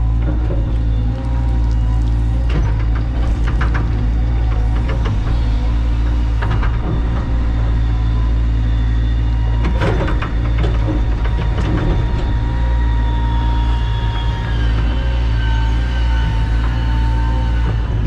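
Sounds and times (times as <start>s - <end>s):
excavator diesel engine running: 0.0s - 18.0s
faint hydraulic whine: 0.0s - 18.0s.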